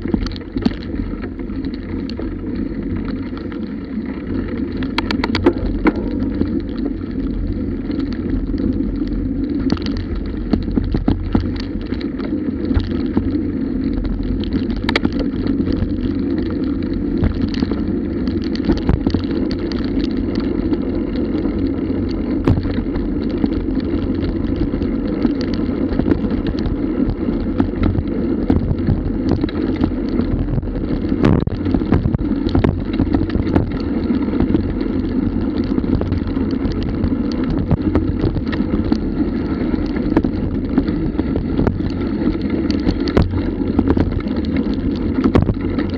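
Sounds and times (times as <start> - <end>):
bicycle rattling over bumps: 0.0 - 45.9
bicycle tyres rumbling on dirt: 0.0 - 45.9.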